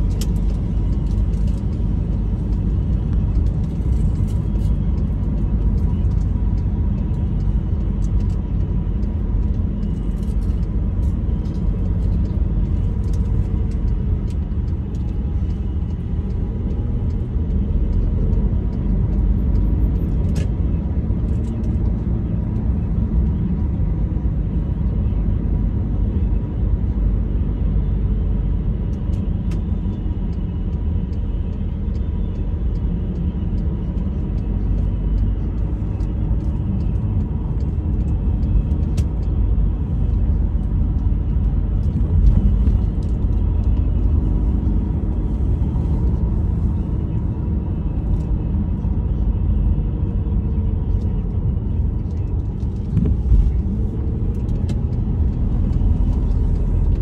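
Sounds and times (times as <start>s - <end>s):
vehicle rumble: 0.0s - 57.0s.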